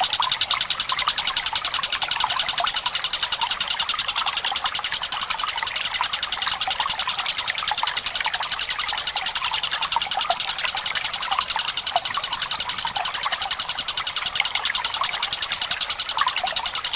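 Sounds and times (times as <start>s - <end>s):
bird trilling call: 0.0s - 16.9s
faint trickling water: 0.0s - 16.9s.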